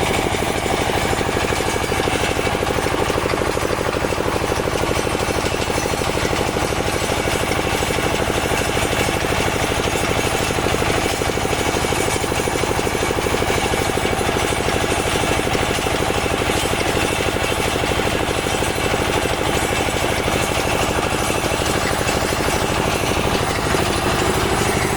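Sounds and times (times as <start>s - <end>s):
drill machine running: 0.0s - 24.9s.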